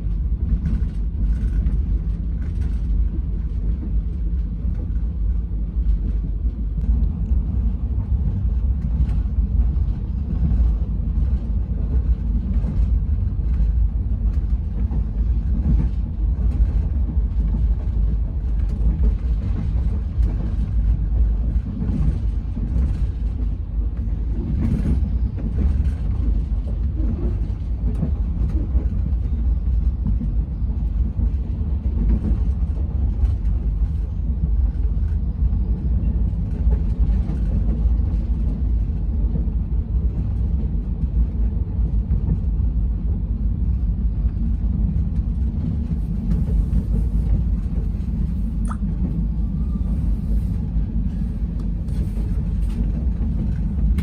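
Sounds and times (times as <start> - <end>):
train running rumble inside coach: 0.0 - 54.0.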